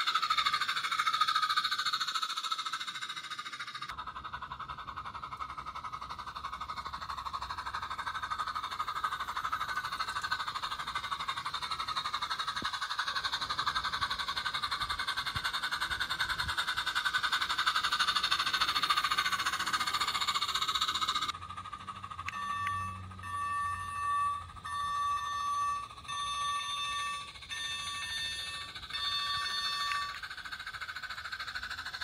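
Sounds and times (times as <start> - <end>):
steam locomotive chuffing: 0.0 - 32.0.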